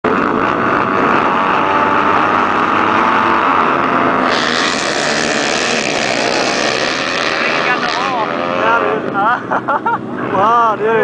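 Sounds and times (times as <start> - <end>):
motorbike engines revving: 0.0 - 11.0.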